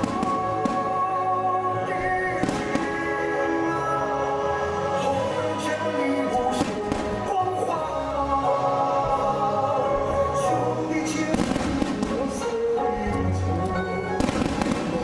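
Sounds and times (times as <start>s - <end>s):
fireworks bursting: 0.0s - 4.0s, 4.8s - 15.0s
loud music: 0.0s - 15.0s.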